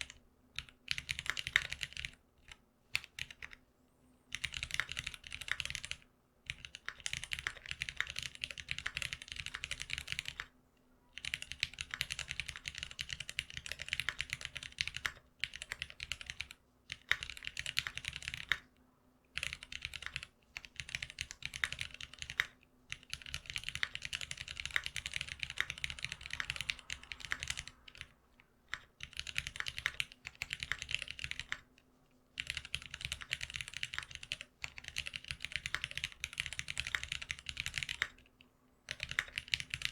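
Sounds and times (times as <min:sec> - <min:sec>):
fast typing on mechanical keyboard: 0:00.0 - 0:03.6, 0:04.3 - 0:10.5, 0:11.1 - 0:18.7, 0:19.3 - 0:28.1, 0:28.7 - 0:31.7, 0:32.4 - 0:38.3, 0:38.9 - 0:39.9
faint steady hum: 0:00.0 - 0:39.9.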